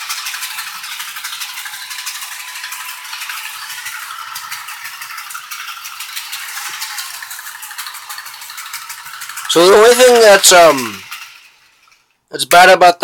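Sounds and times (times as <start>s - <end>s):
model train wheels clattering: 0.0s - 13.0s.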